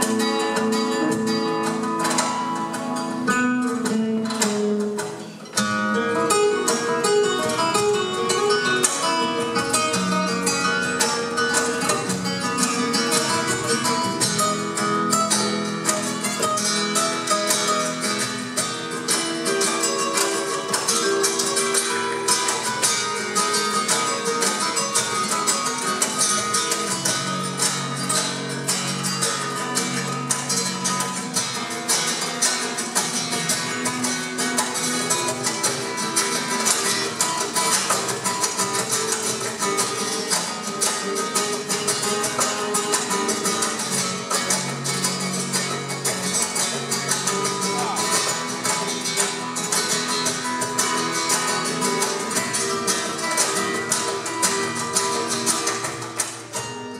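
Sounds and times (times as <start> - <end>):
two nylon-string guitars playing: 0.0 - 56.9.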